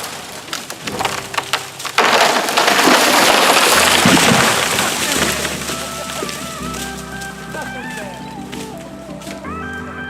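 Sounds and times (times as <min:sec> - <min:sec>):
loud crash of breaking wood: 0:00.0 - 0:08.7
wood cracking and splintering: 0:00.0 - 0:10.0.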